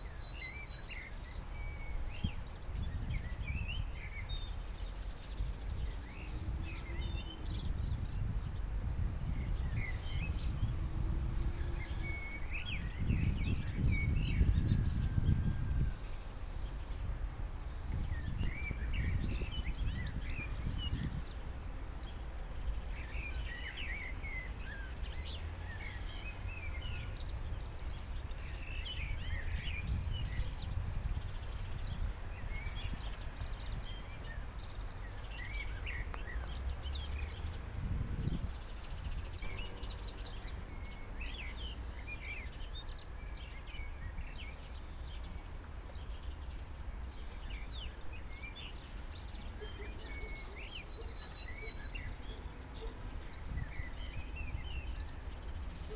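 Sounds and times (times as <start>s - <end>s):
small birds chirping and singing: 0.0s - 55.9s.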